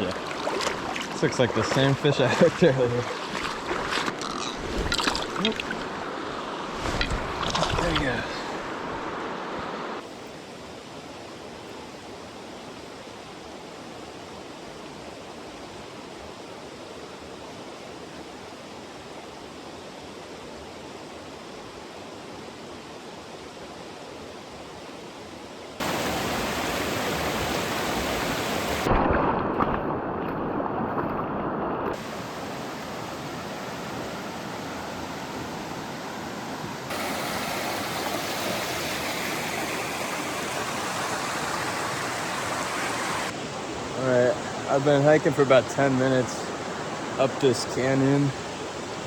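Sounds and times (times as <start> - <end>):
stream water flowing: 0.0 - 49.0.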